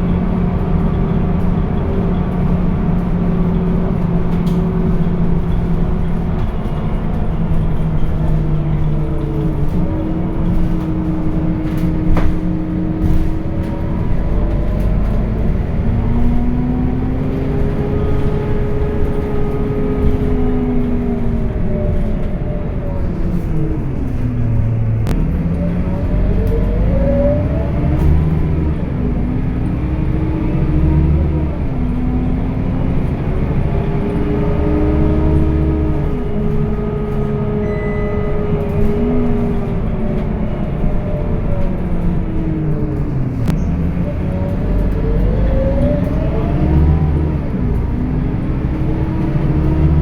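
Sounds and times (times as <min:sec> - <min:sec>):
bus engine accelerating: 0:00.0 - 0:50.0.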